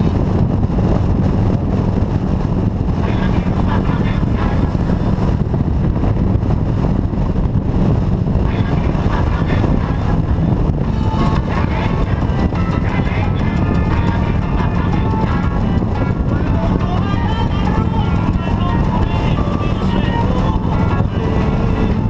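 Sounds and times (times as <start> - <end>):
motorcycle engine drone: 0.0 - 22.0
wind and road noise: 0.0 - 22.0.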